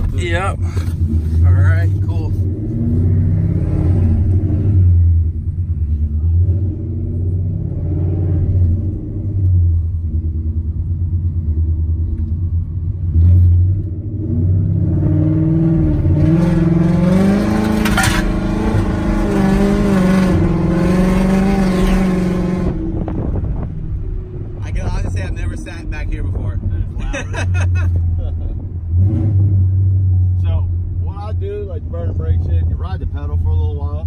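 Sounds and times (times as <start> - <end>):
car engine rumbling: 0.0 - 34.0.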